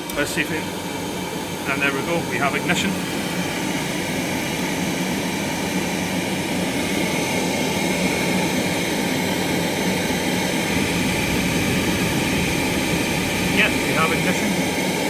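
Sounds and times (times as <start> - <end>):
oil burner roaring: 0.0 - 15.0.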